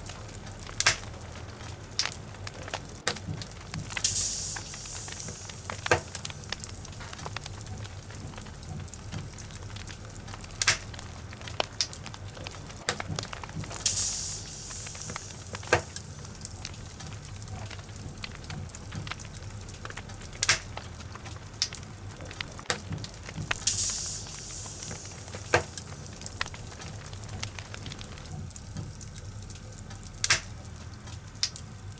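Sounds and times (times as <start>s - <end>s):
logs burning with crackles: 0.0s - 31.9s.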